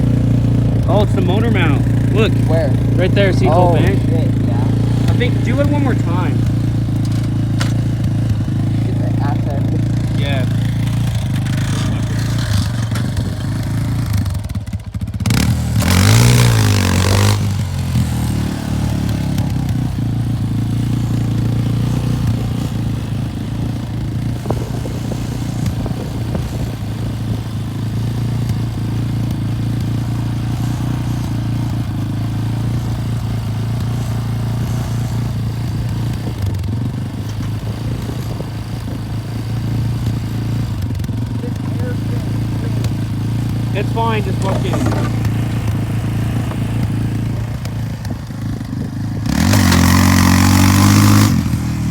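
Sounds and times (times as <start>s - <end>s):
engine running and revving: 0.0s - 51.9s.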